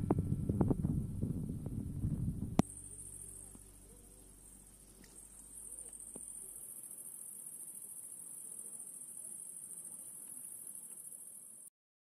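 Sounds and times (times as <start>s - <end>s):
crickets chirring: 0.0s - 11.7s.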